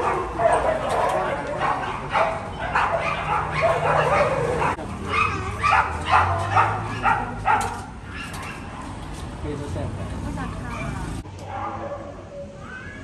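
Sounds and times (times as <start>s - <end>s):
dogs barking and yipping: 0.0s - 9.0s, 10.4s - 13.0s.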